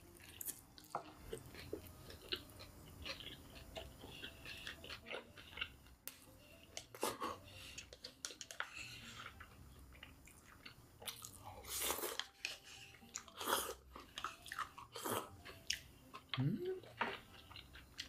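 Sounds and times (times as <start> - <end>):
crunching and chewing fried chicken: 0.0 - 6.0, 6.7 - 18.0.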